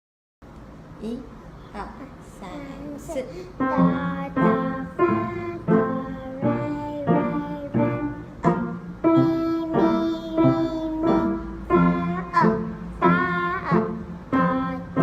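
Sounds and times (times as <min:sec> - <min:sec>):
person singing along: 0:02.4 - 0:15.0
slow piano notes: 0:02.5 - 0:15.0.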